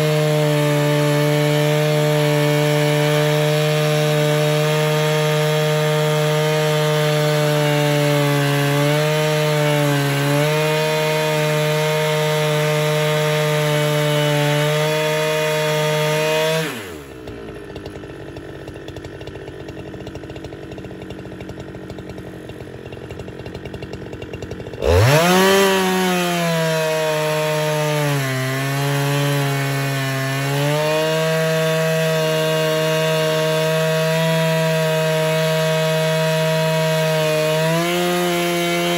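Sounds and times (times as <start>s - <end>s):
chainsaw ripping a log: 0.0s - 38.9s.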